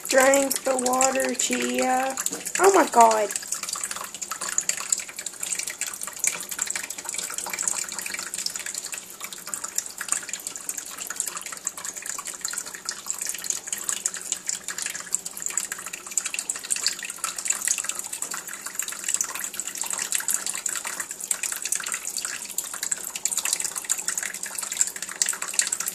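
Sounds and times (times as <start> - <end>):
tap water running into sink: 0.0 - 25.9.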